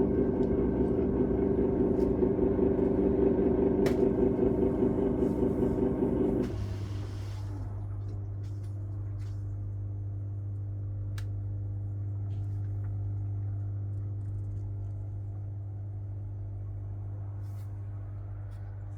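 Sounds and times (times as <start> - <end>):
washing machine humming: 0.0 - 18.9.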